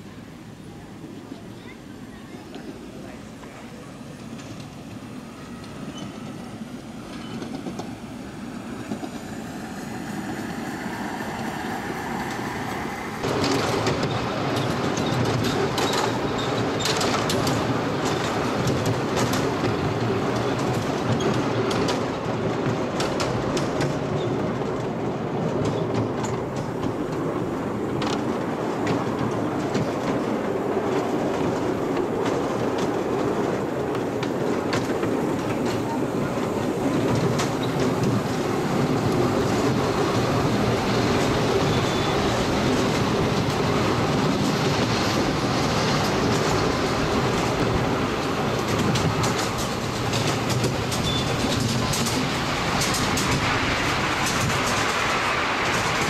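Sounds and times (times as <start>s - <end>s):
miniature steam locomotive running: 0.0s - 56.0s
wheels clicking over rail joints: 1.2s - 56.0s.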